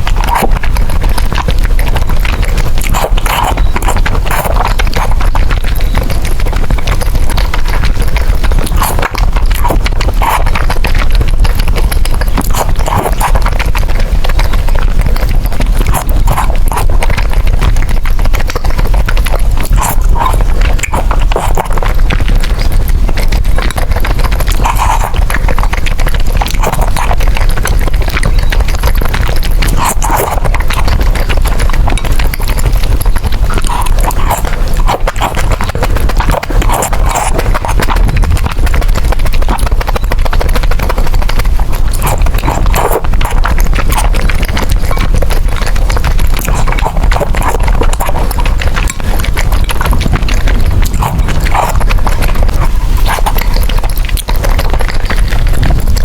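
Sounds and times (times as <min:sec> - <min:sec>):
chewing and slurping noodles: 0:00.0 - 0:56.0
mouth clicks: 0:00.0 - 0:56.0.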